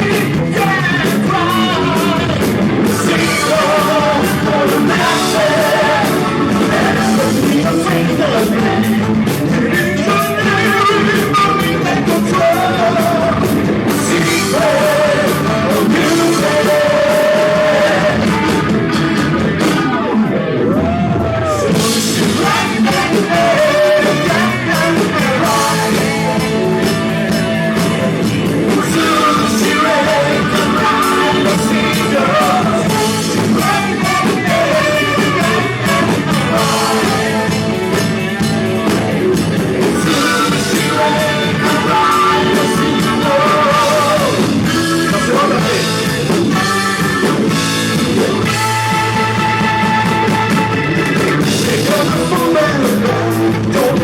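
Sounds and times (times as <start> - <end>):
electric guitar lead line: 0.0 - 54.0
rock band playing live: 0.0 - 54.0.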